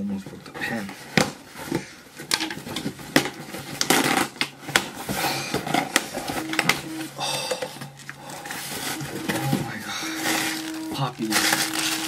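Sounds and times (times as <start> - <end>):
cardboard tearing and rustling: 0.7 - 7.1, 7.9 - 12.0.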